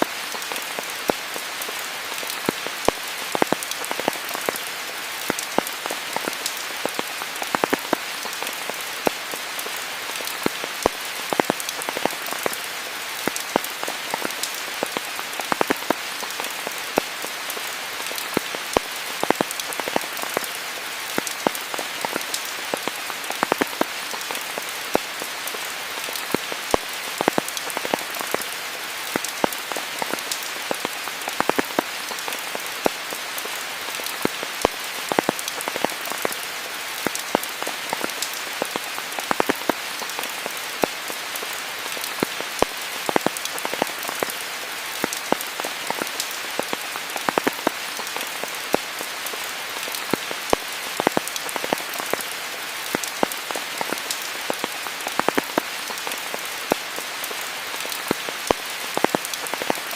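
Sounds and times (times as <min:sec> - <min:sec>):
raindrops tapping nearby: 0:00.0 - 0:59.9
steady rain hiss: 0:00.0 - 0:59.9.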